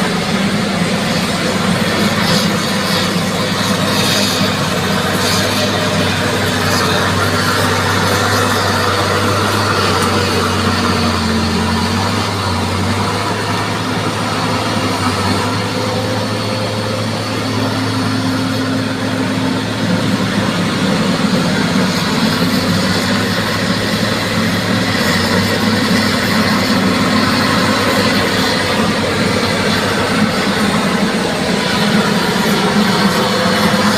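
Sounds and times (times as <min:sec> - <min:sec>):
bulldozer diesel engine rumbling: 0:00.0 - 0:33.9.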